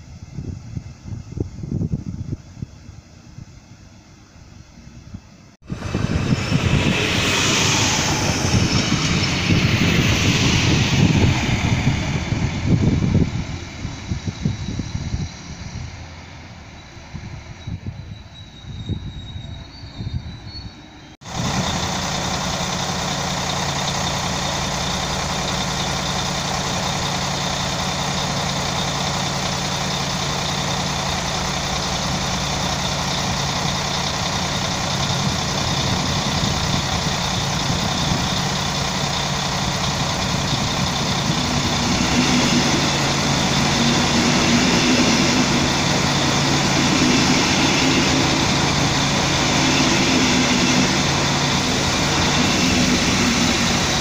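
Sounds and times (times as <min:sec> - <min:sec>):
diesel train idling hum: 0:00.0 - 0:54.0
train pulling in: 0:00.0 - 0:54.0.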